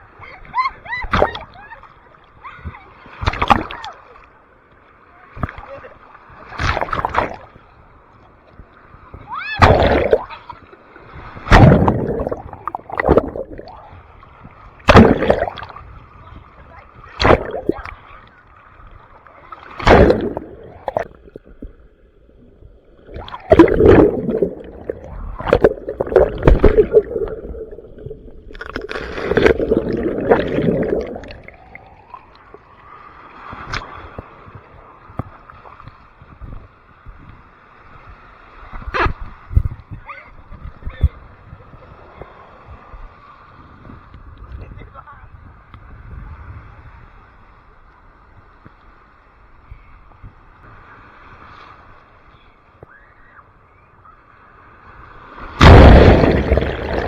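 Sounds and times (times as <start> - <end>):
waves splashing: 0.0 - 57.0.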